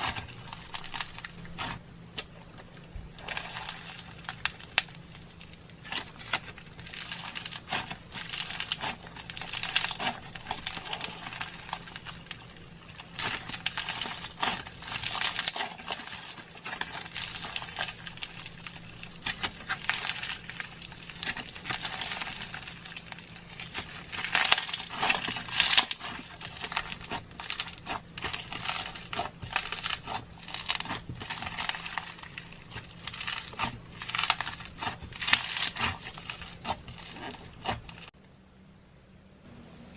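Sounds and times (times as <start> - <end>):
slime crackling and popping: 0.0 - 38.2.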